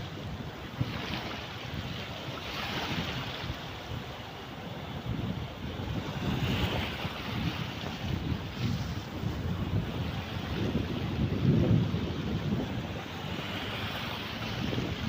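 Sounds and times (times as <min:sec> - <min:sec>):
sea waves washing in: 0:00.0 - 0:15.0
wind buffeting microphone: 0:00.0 - 0:15.0.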